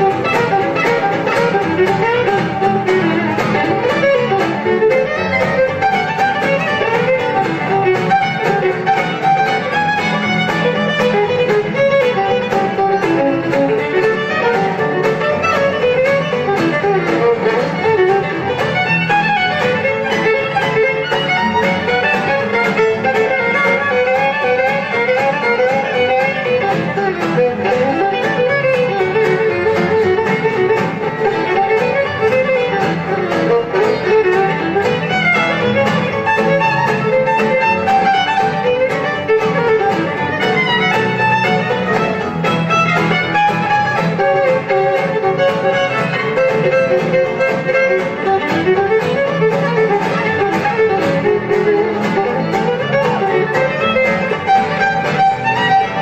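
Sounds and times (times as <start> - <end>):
acoustic guitars strumming: 0.0 - 56.0
fiddle melody: 0.0 - 56.0.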